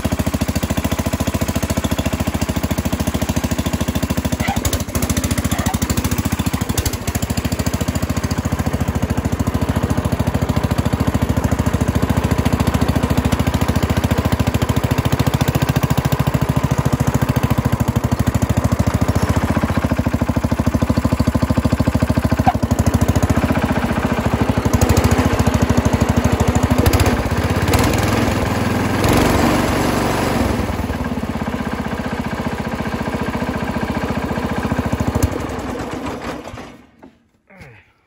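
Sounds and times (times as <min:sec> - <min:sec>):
garden tractor engine running: 0:00.0 - 0:38.0.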